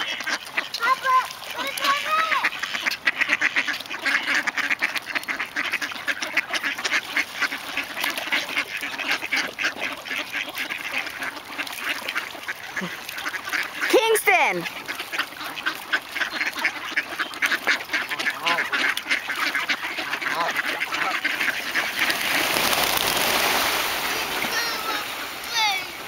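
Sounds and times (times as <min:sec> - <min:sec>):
flock of ducks quacking: 0:00.0 - 0:26.0.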